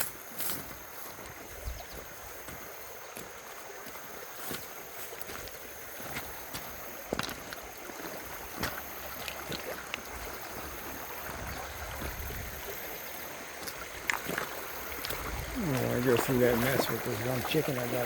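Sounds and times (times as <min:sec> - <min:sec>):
creek water running: 0:00.0 - 0:18.0.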